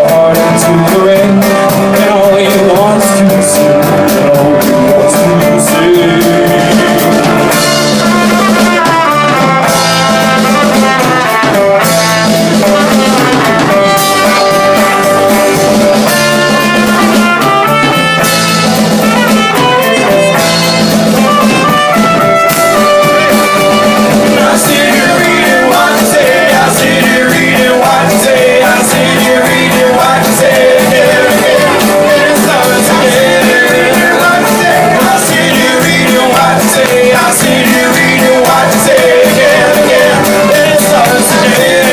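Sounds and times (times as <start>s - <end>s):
drum kit: 0.0s - 41.9s
man singing: 0.0s - 41.9s
second guitar: 0.0s - 41.9s
strummed acoustic guitar: 0.0s - 41.9s.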